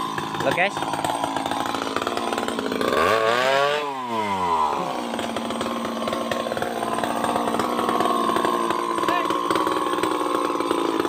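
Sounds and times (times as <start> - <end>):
chainsaw engine revving and idling: 0.0 - 11.0.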